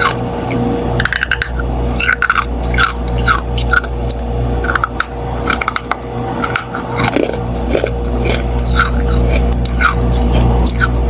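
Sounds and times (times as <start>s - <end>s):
freezer frost crunching: 0.0s - 11.0s.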